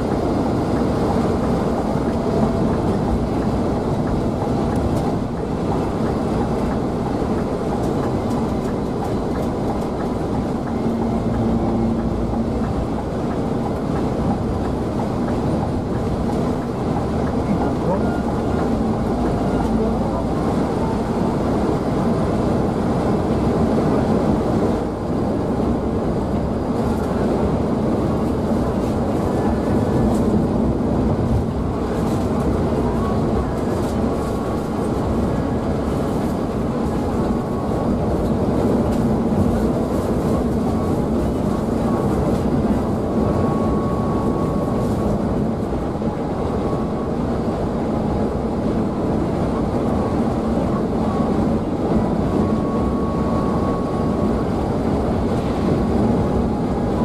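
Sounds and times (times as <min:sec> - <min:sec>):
coach engine drone: 0:00.0 - 0:57.0.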